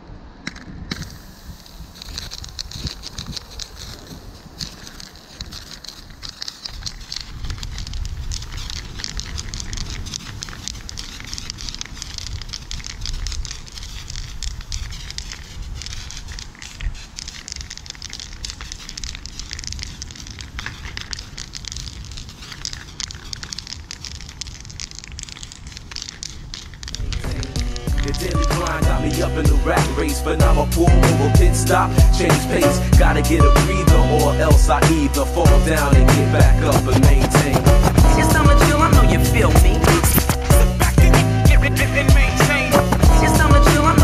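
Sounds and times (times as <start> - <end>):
spray paint can hissing: 0.5 - 44.0.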